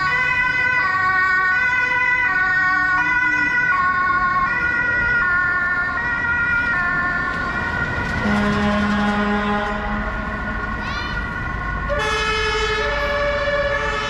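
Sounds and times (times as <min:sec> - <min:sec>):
two-tone fire engine siren: 0:00.0 - 0:14.0.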